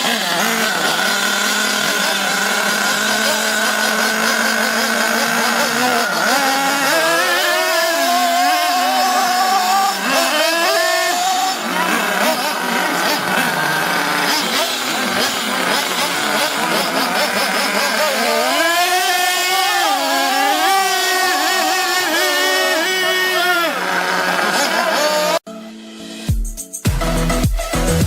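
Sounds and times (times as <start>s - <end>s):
rc car motors whining: 0.0s - 25.5s.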